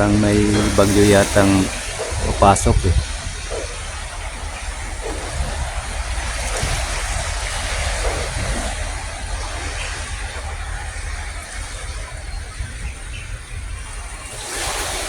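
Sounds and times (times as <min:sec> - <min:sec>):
sea waves washing in: 0:00.0 - 0:15.0
wind rumbling on microphone: 0:00.0 - 0:15.0.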